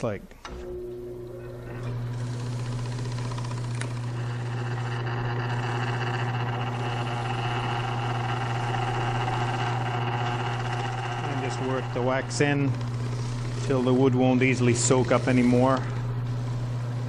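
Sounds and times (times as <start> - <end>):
wood lathe humming: 1.0 - 17.0
cloth rubbing spinning wood: 2.1 - 16.8.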